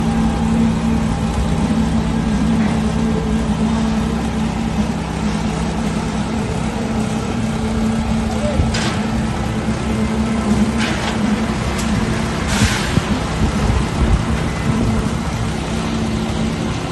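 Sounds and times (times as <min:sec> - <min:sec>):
construction machinery engine humming: 0:00.0 - 0:16.9.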